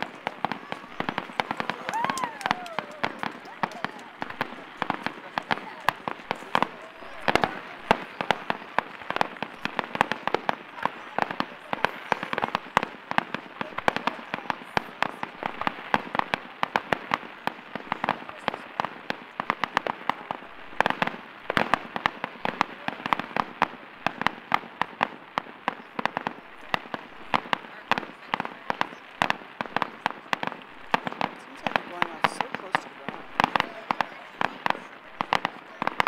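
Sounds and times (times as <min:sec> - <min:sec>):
fireworks popping and crackling: 0:00.0 - 0:36.0.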